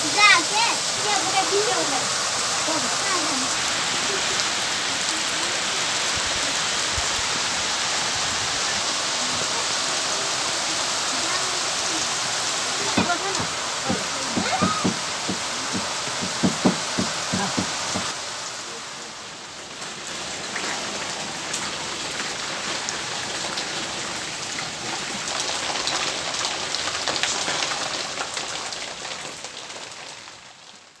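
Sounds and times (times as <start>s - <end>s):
heavy rain on plants: 0.0s - 31.0s.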